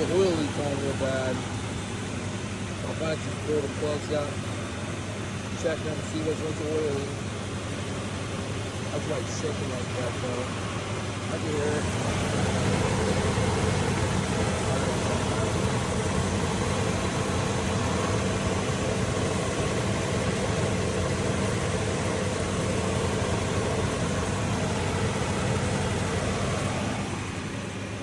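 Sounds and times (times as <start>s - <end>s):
pickup engine idling with misfire: 0.0s - 28.0s.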